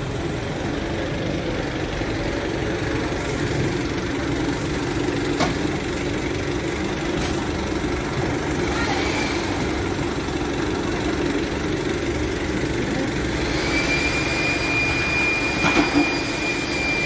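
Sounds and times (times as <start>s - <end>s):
forklift diesel engine running: 0.0s - 17.0s.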